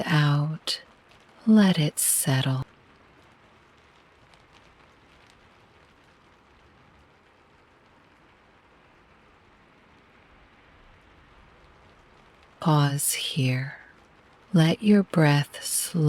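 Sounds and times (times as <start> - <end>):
raindrop ticks: 0.0 - 15.8
soft rain patter: 0.0 - 16.0.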